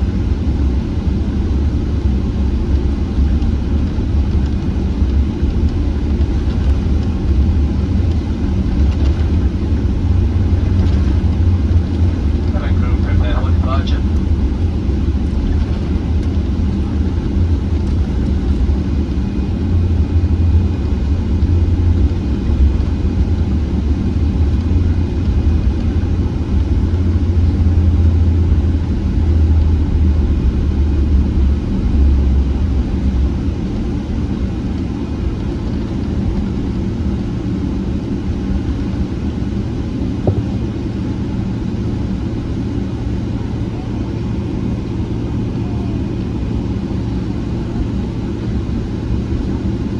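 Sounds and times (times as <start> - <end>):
aircraft cabin engine rumble: 0.0 - 49.9.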